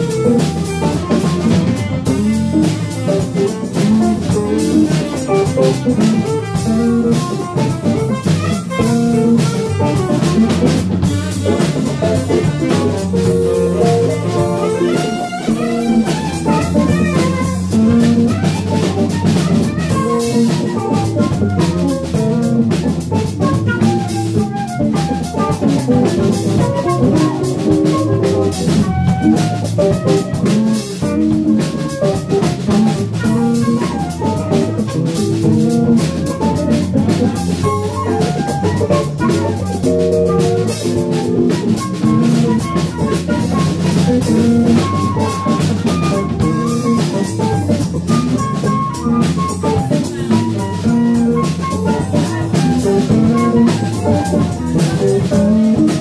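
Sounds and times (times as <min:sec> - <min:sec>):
drum kit: 0:00.0 - 0:56.0
electric bass: 0:00.0 - 0:56.0
guitar: 0:00.0 - 0:56.0
saxophone: 0:00.0 - 0:56.0.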